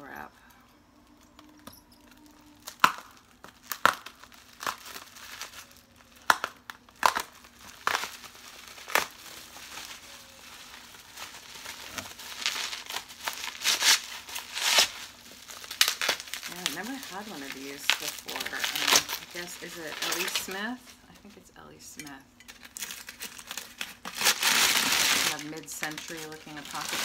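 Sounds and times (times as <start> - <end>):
bubble wrap crinkling: 0.0 - 27.0
bubble wrap snips: 1.3 - 20.6, 22.5 - 27.0.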